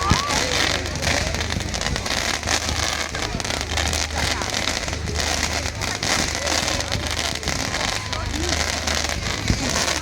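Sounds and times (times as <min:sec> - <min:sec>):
fireworks crackling bangs: 0:00.0 - 0:10.0.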